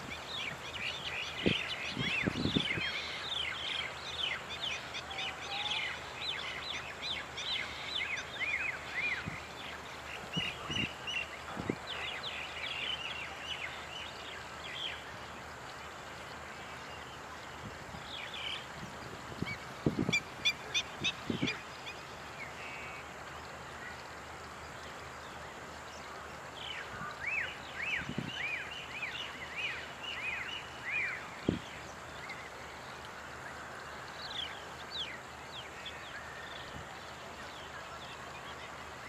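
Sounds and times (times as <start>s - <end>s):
outdoor background noise: 0.0s - 39.0s
wild birds calling: 0.0s - 39.0s.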